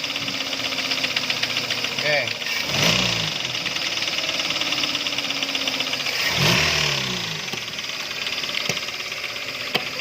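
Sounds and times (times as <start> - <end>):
engine running with rapid knocking: 0.0 - 10.0.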